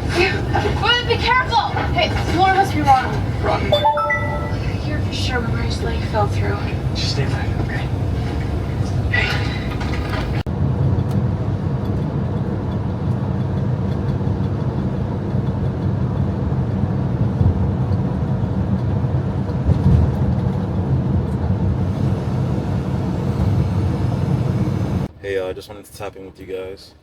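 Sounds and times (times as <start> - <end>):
semi-truck engine rumble: 0.0 - 25.2.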